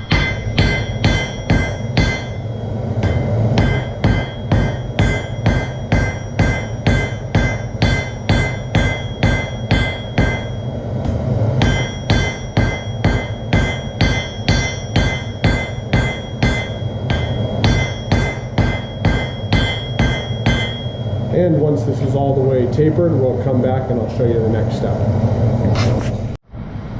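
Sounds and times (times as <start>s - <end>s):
hammer striking iron on anvil: 0.0s - 22.5s.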